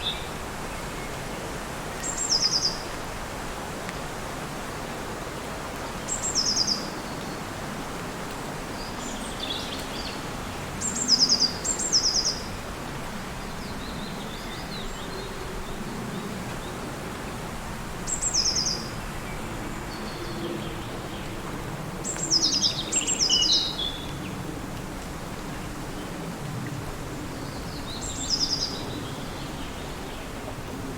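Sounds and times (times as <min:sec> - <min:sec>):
windy hum: 0:02.8 - 0:30.9.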